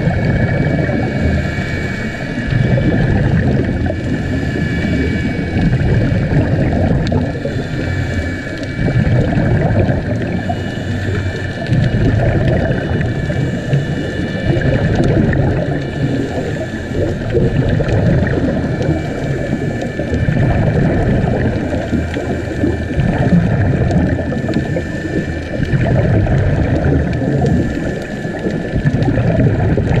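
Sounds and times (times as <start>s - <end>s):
regulator bubbles underwater: 0.0s - 30.0s.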